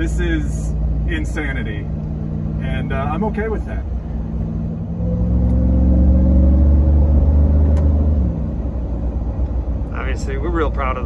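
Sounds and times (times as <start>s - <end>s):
engine accelerating: 0.0s - 11.0s.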